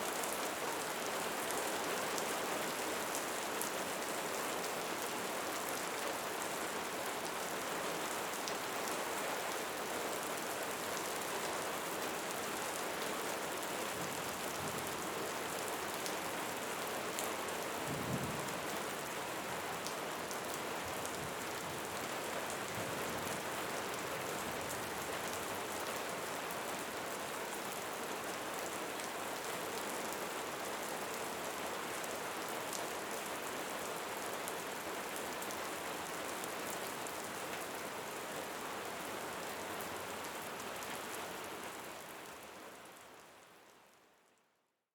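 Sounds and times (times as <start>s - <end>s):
light rain falling: 0.0s - 44.7s.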